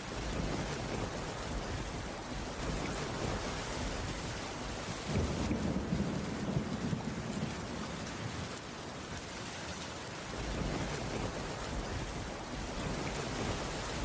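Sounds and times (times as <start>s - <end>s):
distant thunder rumble: 0.0s - 9.2s, 10.2s - 14.0s
steady rainfall: 0.0s - 14.0s.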